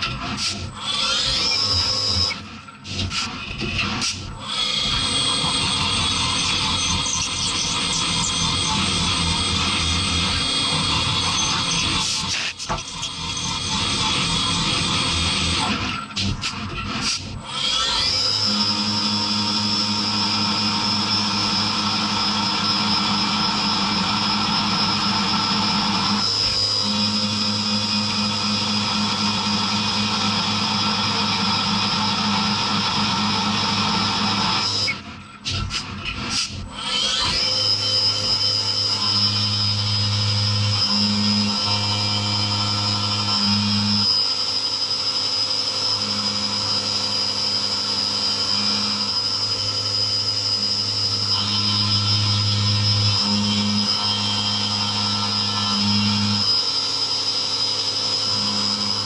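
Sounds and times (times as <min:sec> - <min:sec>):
high-pitched spindle whine: 0:00.0 - 0:59.0
mill cutting metal: 0:00.0 - 0:59.0.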